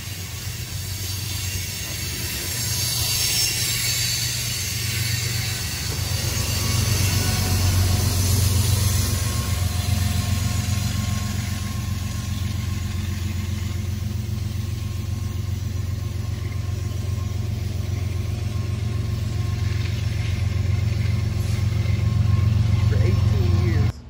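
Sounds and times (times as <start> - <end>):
diesel locomotive engine rumble: 0.0 - 24.0.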